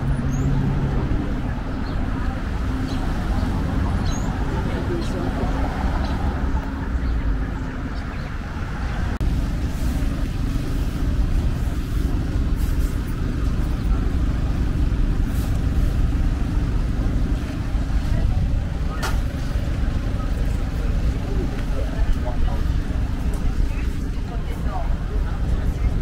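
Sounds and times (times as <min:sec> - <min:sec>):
passing cars rumbling: 0:00.0 - 0:26.0.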